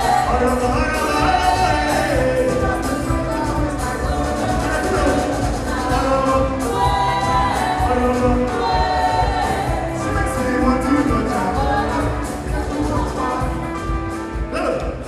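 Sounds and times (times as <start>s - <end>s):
voices singing over a beat: 0.0s - 13.9s.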